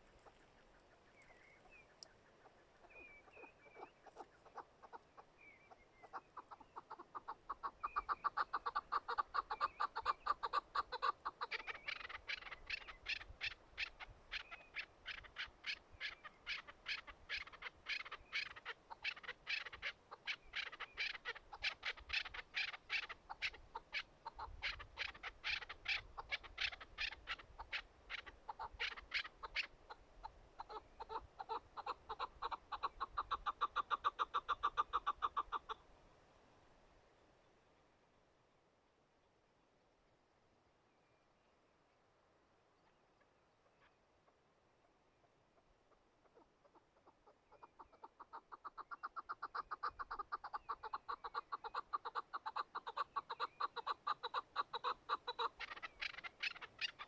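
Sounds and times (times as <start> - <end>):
partridge chirps and clucks: 0.0 - 35.8, 42.8 - 57.0.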